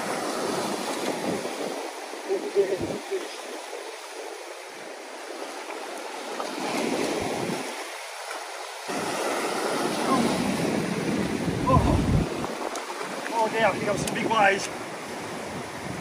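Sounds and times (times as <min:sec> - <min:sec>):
ocean swell washing over rocks: 0:00.0 - 0:16.0.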